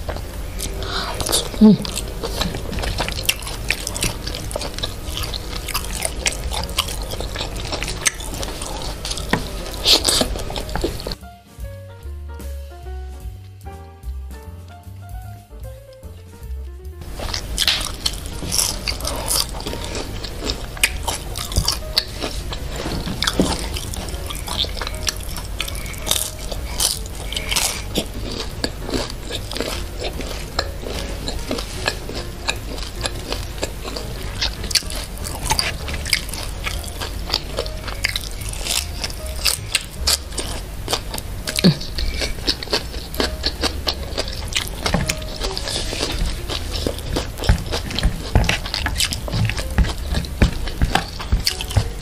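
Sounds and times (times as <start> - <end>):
chewing crisp food: 0.0 - 11.2, 17.0 - 52.0
crisp crunches: 0.0 - 11.2, 17.0 - 52.0
steady low hum: 0.0 - 52.0.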